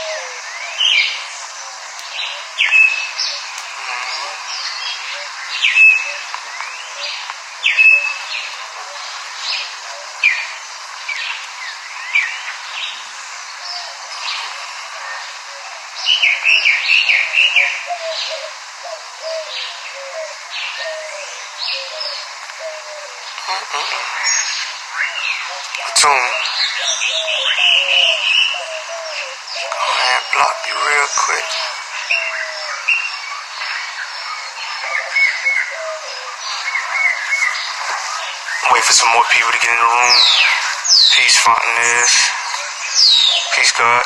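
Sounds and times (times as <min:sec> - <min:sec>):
songbirds chirping: 0:00.0 - 0:44.0.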